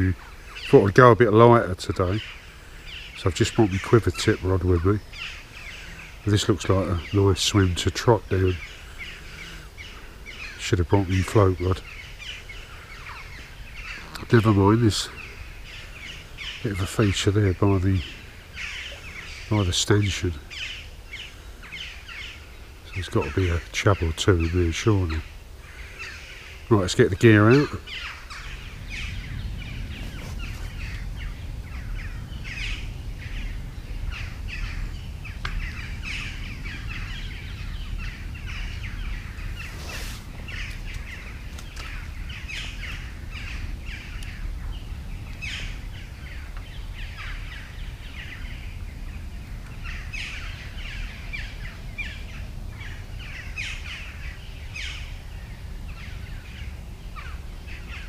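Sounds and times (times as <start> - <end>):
small birds chirping: 0.0 - 58.0
steady low rumble: 0.0 - 58.0.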